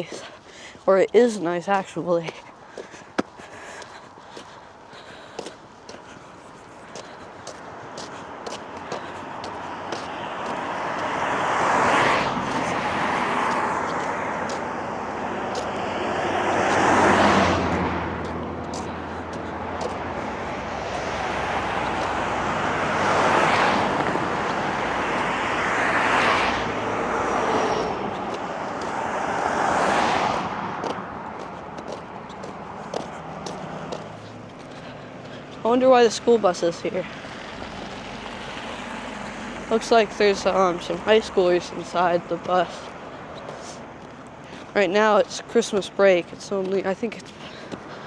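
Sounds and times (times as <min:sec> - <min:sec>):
vehicles passing on road: 0:00.0 - 0:48.0
low engine hum: 0:03.3 - 0:44.8.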